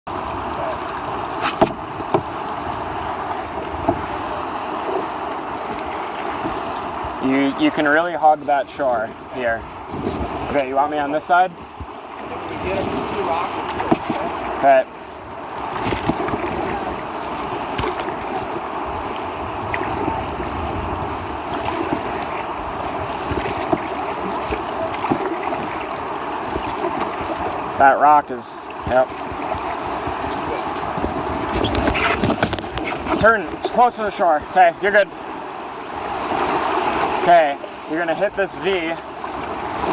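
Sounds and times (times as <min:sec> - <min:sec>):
river rapids rushing: 0:00.1 - 0:08.4, 0:09.1 - 0:39.9.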